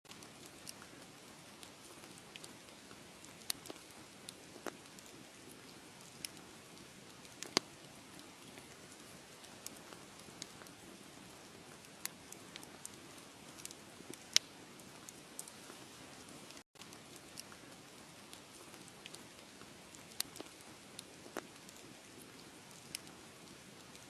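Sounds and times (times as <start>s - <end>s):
wood fire crackling: 0.1s - 24.0s.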